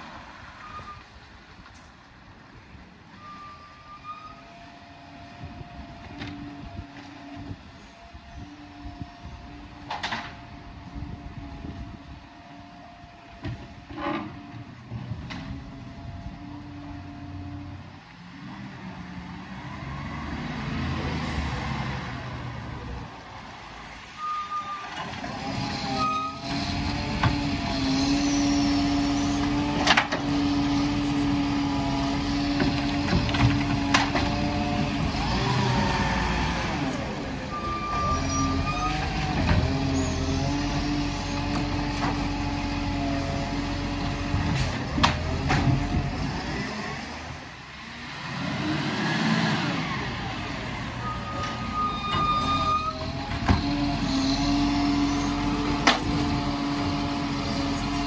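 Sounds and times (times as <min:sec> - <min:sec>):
truck engine and hydraulics whining: 0:00.0 - 0:58.0.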